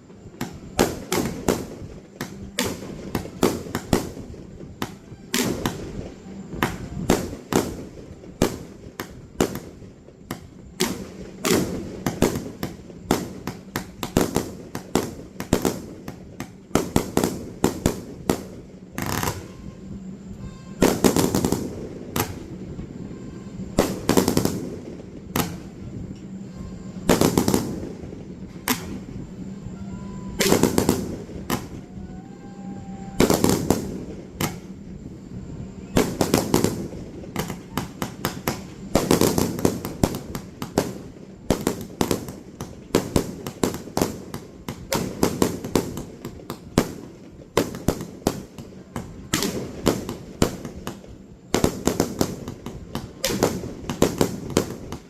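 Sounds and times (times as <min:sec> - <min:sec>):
firework booms: 0:00.0 - 0:26.1, 0:26.9 - 0:55.0
firework crackling and pops: 0:00.0 - 0:55.0.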